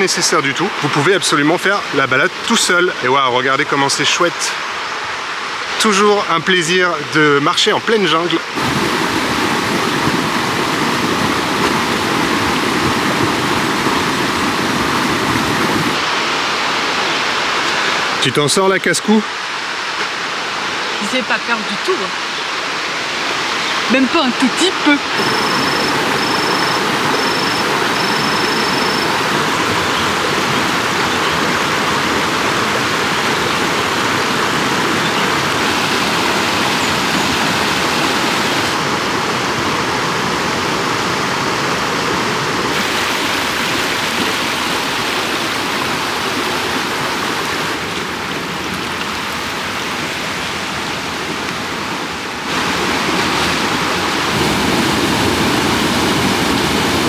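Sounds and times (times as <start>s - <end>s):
rushing river water: 0.0s - 57.0s.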